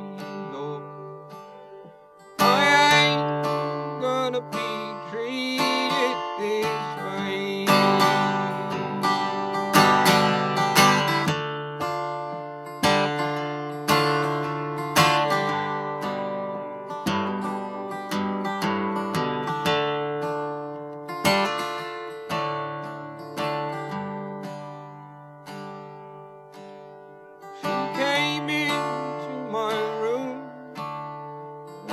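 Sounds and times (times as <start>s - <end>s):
strummed string instrument chords: 0.0s - 31.9s.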